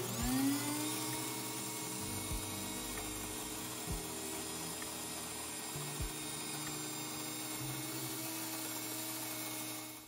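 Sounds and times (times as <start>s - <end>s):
electric grain mill grinding: 0.0s - 10.0s.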